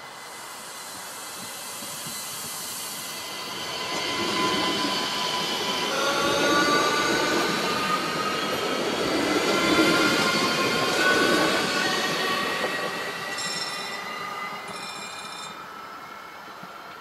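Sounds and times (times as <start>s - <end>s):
train wheels rumbling on rails: 0.2s - 17.0s.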